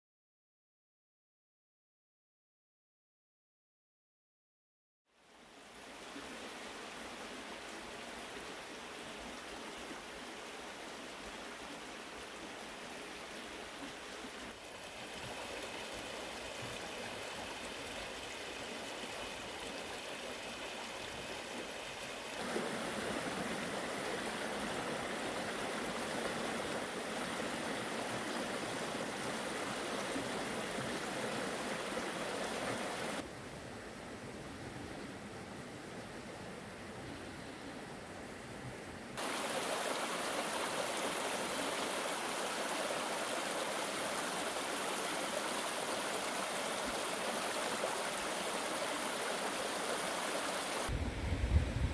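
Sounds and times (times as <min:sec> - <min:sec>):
stream rushing: 0:05.2 - 0:37.0, 0:39.2 - 0:51.9.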